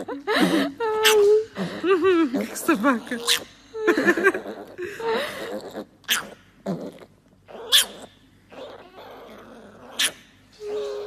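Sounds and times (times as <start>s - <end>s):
piglet grunting: 0.0s - 11.0s
piglet snorting: 1.0s - 3.5s, 4.2s - 11.0s.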